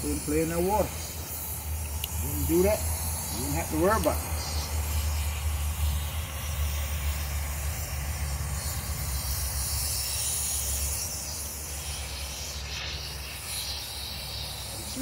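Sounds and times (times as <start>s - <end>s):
low steady rumble: 0.0s - 12.0s
hose spraying water: 0.0s - 15.0s.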